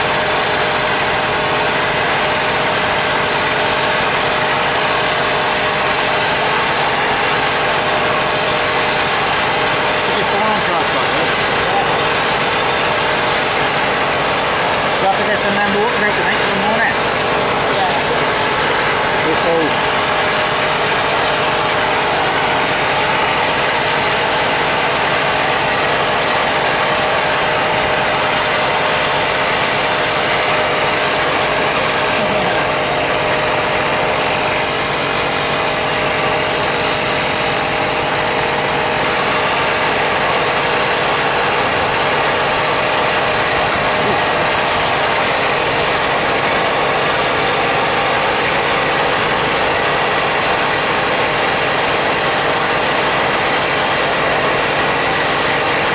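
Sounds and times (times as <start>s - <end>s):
steady machine noise: 0.0s - 55.9s.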